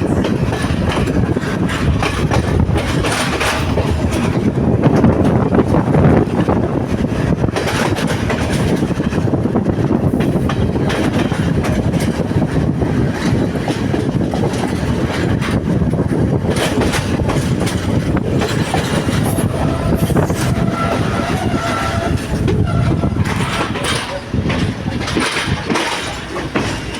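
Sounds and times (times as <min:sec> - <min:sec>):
train low rumble: 0:00.0 - 0:26.9
wheels clacking over rail joints: 0:00.0 - 0:26.9.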